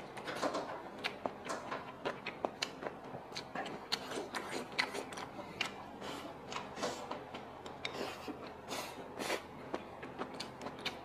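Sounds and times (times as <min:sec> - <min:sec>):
soft chewing close up: 0:00.0 - 0:11.0.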